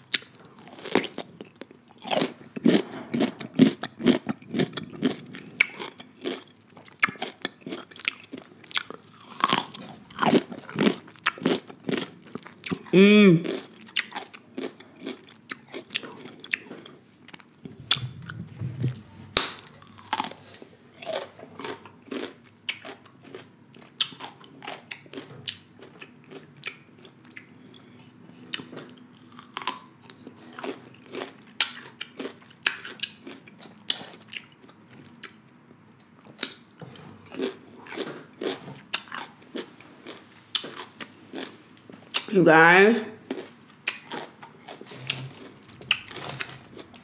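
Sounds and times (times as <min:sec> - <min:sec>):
crunching and chewing cucumber: 0:00.0 - 0:18.4, 0:19.3 - 0:42.3, 0:43.2 - 0:47.0.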